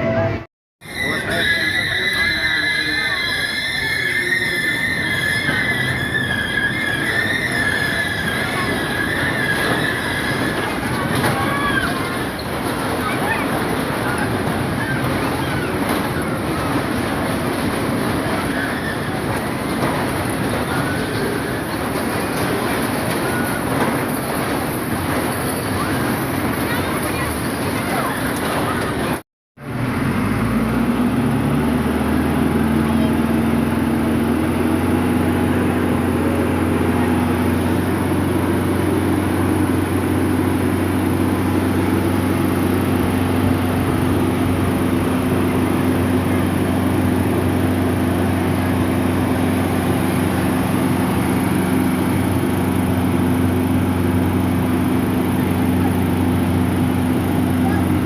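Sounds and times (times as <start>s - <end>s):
engine running with low hum: 5.4s - 58.0s.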